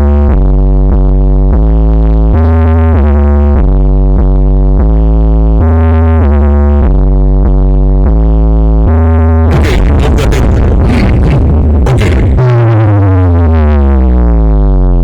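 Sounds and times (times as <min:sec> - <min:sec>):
loud electronic music with synth bass: 0:00.0 - 0:15.0.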